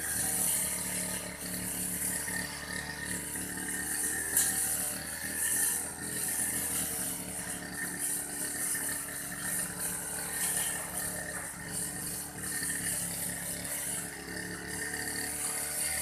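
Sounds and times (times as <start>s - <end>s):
brush cutter engine running: 0.0s - 16.0s
cutting head hissing through grass: 0.0s - 16.0s.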